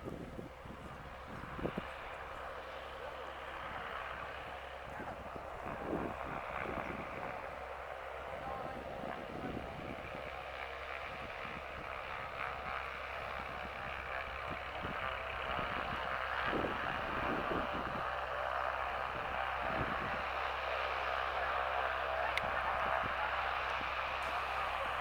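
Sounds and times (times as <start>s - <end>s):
light airplane engine and propeller: 0.0s - 25.0s.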